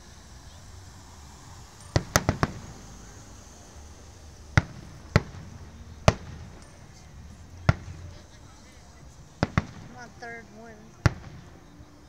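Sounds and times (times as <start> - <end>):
fireworks bursting with sharp bangs: 1.5 - 12.0.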